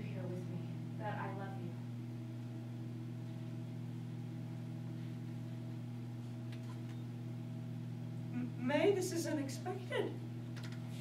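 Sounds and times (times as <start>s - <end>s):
low hum with overtones: 0.0s - 11.0s.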